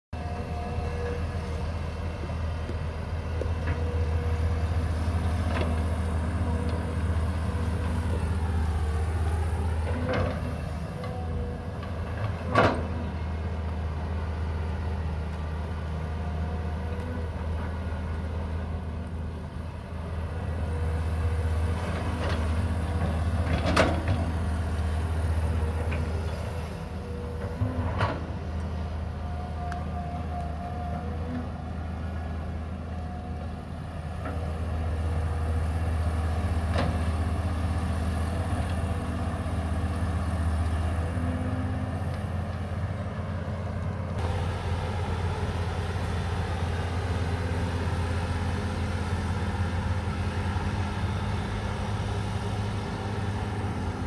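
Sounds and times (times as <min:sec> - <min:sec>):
excavator diesel engine: 0:00.1 - 0:54.0.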